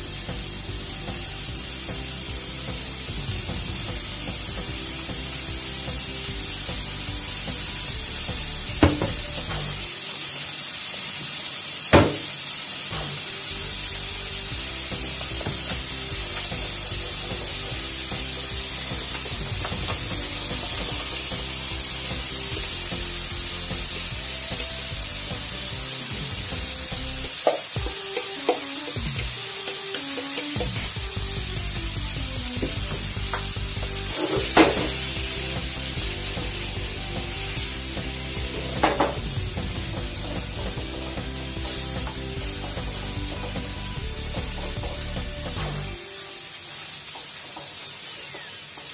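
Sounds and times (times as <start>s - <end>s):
gas stove hissing: 0.0s - 48.9s.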